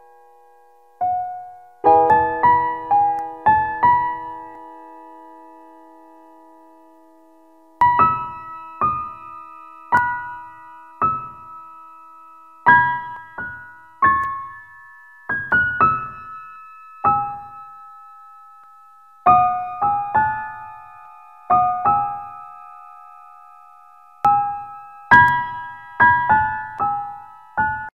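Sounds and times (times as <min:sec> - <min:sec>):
slow solo piano: 0:00.0 - 0:27.9.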